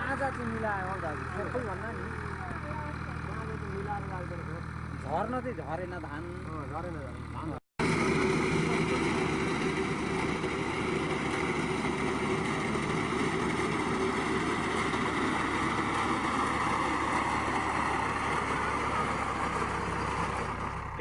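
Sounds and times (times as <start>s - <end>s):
farm machine engine running: 0.0s - 21.0s.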